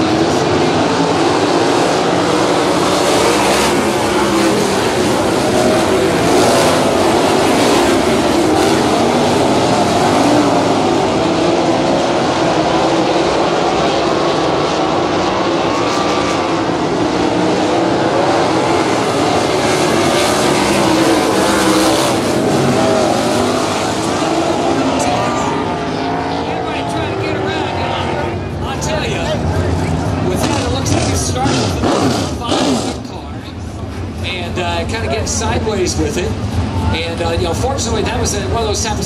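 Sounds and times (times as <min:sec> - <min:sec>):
race car engines roaring: 0:00.0 - 0:39.0.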